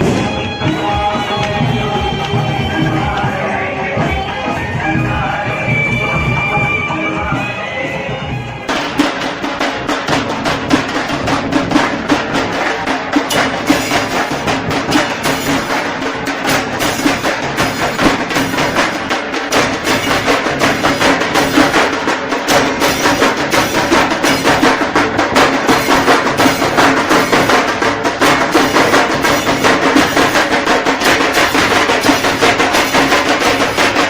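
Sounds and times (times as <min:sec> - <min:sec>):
drums beaten fast: 0:00.0 - 0:34.0.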